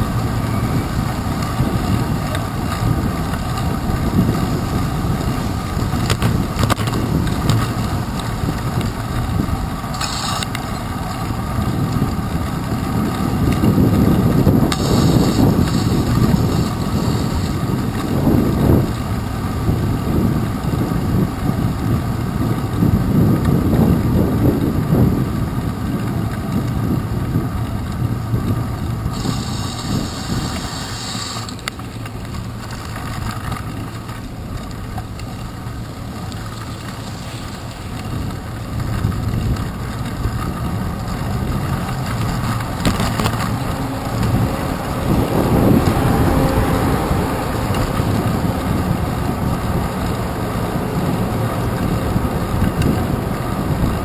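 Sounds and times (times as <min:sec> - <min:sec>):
wind buffeting microphone: 0:00.0 - 0:54.0
tyres hissing on wet pavement: 0:00.1 - 0:19.8, 0:28.2 - 0:54.0.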